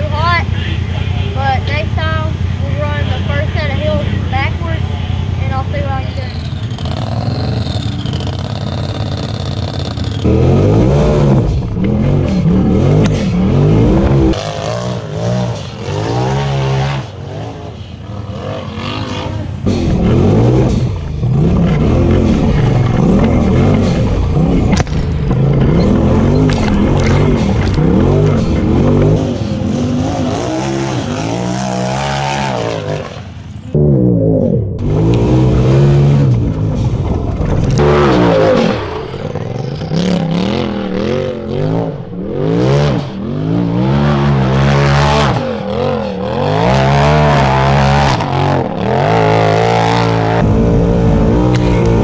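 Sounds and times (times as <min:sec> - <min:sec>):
utv engine revving: 0:00.0 - 0:52.0.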